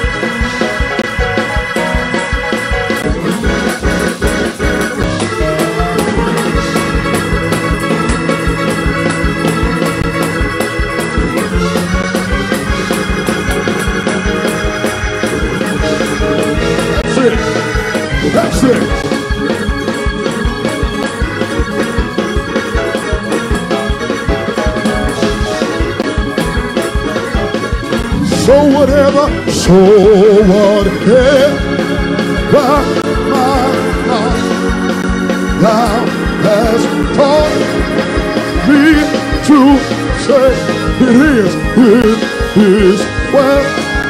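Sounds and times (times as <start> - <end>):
quick steady beat: 0.0 - 42.6
organ playing sustained chords: 0.0 - 44.0.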